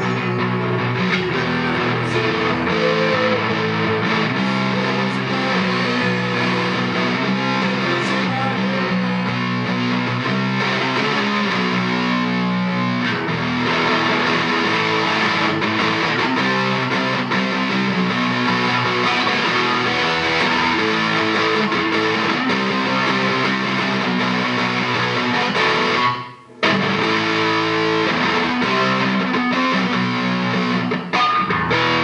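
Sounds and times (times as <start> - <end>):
background guitar music: 0.0 - 32.0.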